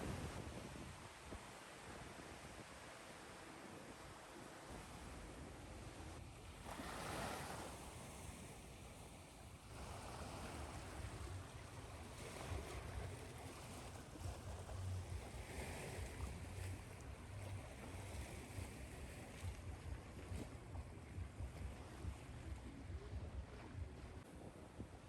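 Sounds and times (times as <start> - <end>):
ocean waves washing on shore: 0.0 - 25.0.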